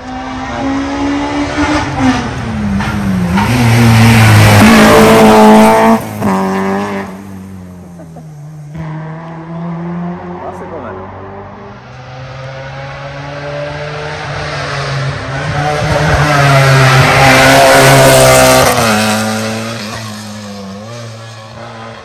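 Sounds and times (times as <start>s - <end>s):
rally car passing at speed: 0.0s - 22.0s.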